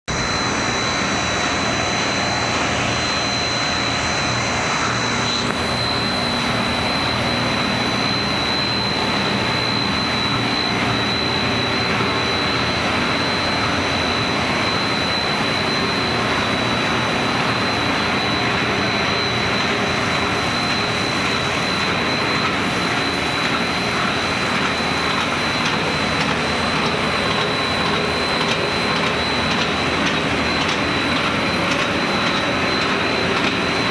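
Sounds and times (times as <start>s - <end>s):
dense mechanical machinery noise: 0.1s - 33.9s
high-pitched machine whine: 0.1s - 33.9s.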